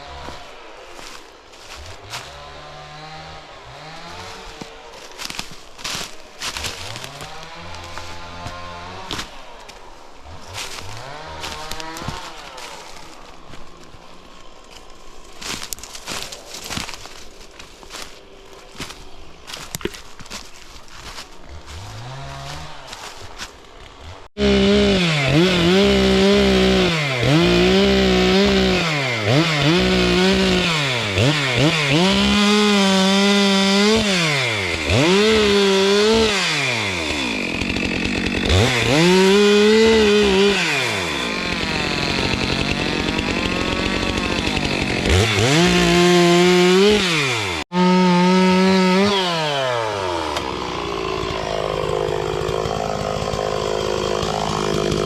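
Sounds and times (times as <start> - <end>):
chainsaw cutting timber: 0.0 - 55.0.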